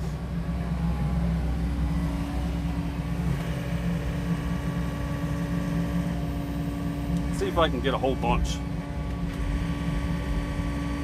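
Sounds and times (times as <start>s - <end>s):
diesel engine running: 0.0s - 11.0s
machine whine: 0.0s - 11.0s.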